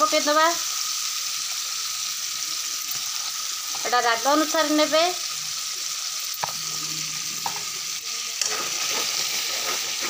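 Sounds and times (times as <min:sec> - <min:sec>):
spices sizzling in hot oil: 0:00.0 - 0:10.0.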